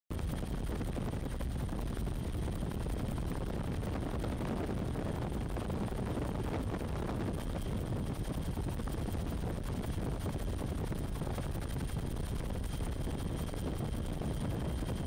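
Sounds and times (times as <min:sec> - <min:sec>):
helicopter rotor and engine drone: 0:00.1 - 0:15.0.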